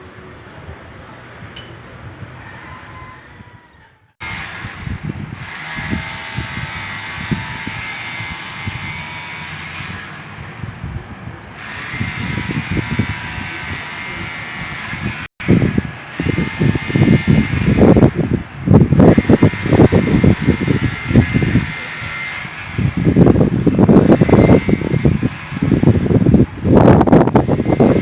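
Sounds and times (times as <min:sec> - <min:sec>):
rotary hammer drilling concrete: 0:04.2 - 0:10.8, 0:11.6 - 0:28.0.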